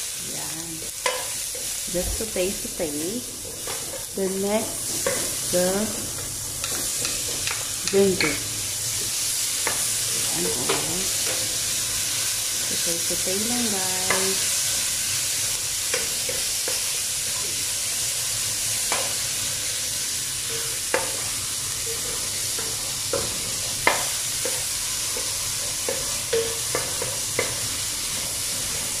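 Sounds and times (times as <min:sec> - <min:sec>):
garlic and onion sizzling in oil: 0:00.0 - 0:29.0.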